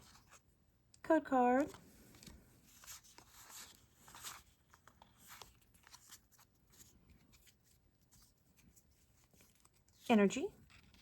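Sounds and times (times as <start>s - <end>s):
cards and wrapper crinkling: 1.6s - 11.0s.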